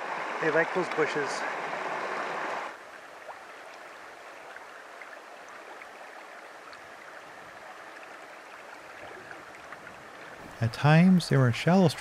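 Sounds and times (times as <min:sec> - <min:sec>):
water gurgles and splashes: 0:00.0 - 0:11.2
creek running over rocks: 0:00.0 - 0:12.0.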